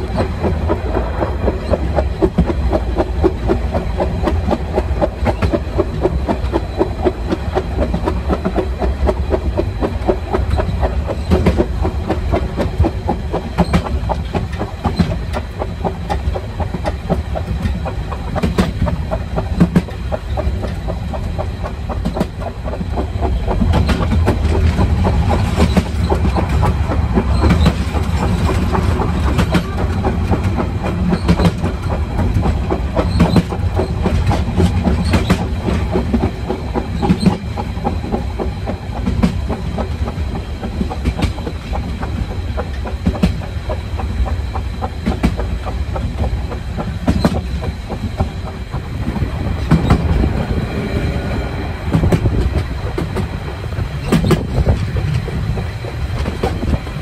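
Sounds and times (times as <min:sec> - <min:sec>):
train rumbling: 0:00.0 - 0:57.0
wheels clattering over rail joints: 0:00.0 - 0:57.0.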